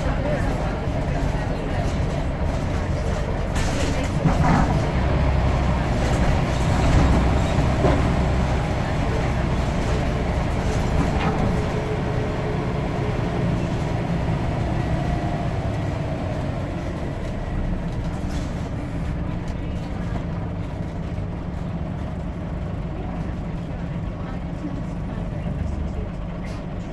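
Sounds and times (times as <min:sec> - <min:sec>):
bus engine rumbling: 0:00.0 - 0:26.9.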